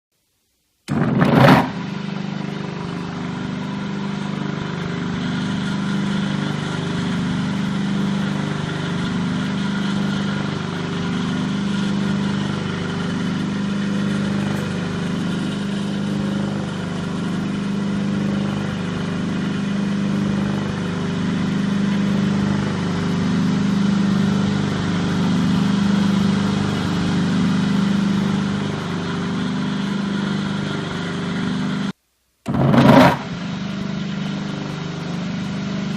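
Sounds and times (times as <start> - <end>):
electric motor humming with pulsing: 0.9 - 31.6, 32.5 - 35.9.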